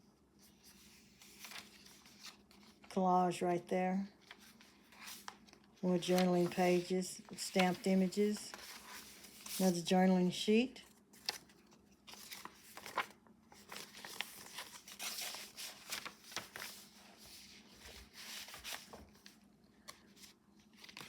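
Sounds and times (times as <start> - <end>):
paper pages rustling: 0.4 - 3.0, 4.1 - 10.0, 10.8 - 21.0.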